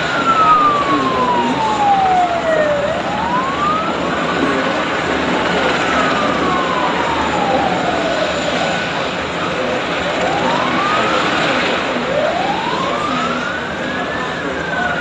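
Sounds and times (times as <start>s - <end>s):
city noise: 0.0s - 15.0s
emergency siren wailing: 0.0s - 15.0s.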